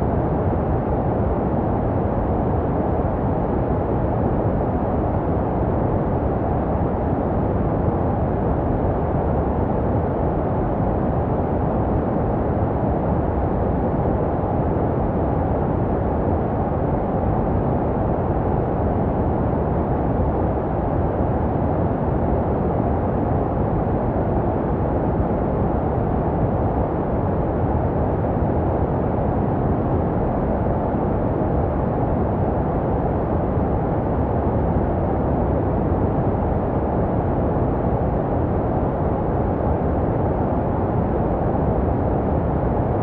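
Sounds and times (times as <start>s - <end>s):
muffled white noise rushing: 0.0s - 43.0s.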